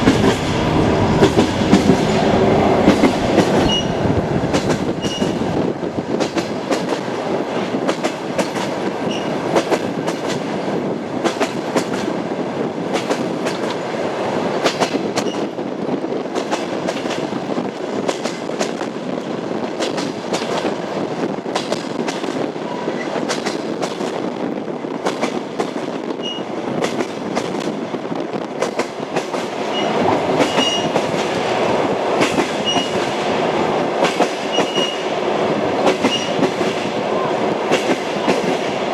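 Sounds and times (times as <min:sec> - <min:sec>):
train wheels clacking on rail joints: 0:00.0 - 0:12.2, 0:12.8 - 0:13.9, 0:14.5 - 0:15.6, 0:16.2 - 0:37.0, 0:37.6 - 0:38.9
train rolling rumble: 0:00.0 - 0:38.9.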